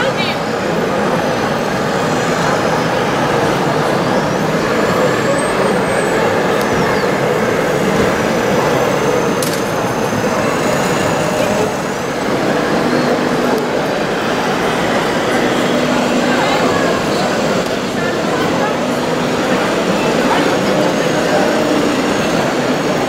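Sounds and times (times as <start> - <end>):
busy hall din: 0.0 - 23.0
model excavator engine sound: 0.2 - 23.0.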